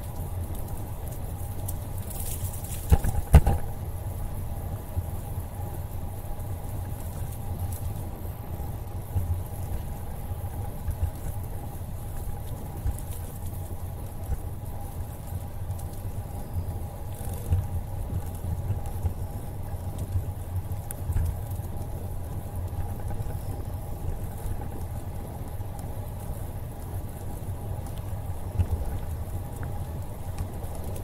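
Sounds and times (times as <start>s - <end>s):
bicycle tyres rolling on pavement: 0.0s - 31.0s
wind rumble on microphone: 0.0s - 31.0s.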